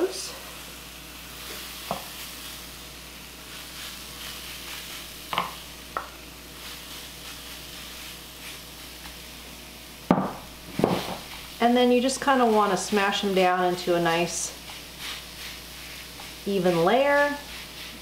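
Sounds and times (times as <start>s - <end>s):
potatoes sizzling: 0.0s - 18.0s.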